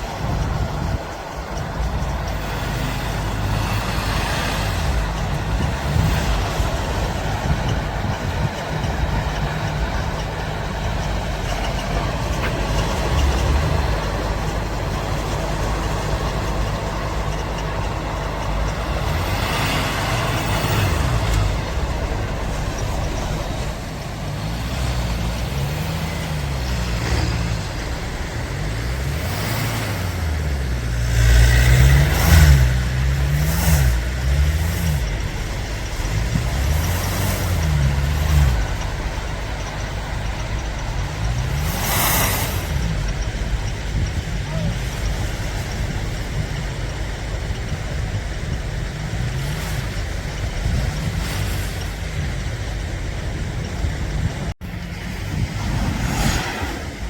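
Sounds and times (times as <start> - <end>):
vehicle engines revving: 0.0 - 57.0.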